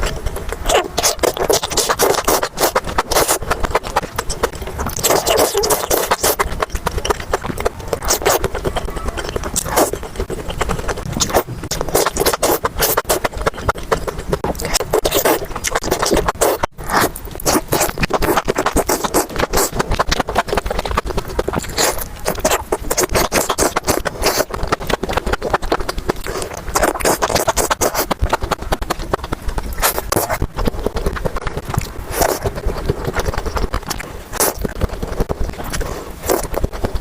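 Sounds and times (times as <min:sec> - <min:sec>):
crunching and chewing: 0:00.0 - 0:37.0.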